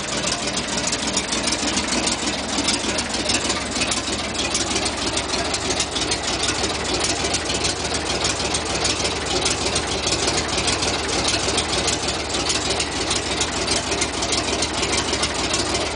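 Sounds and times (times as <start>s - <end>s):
locomotive engine idling: 0.0s - 15.9s.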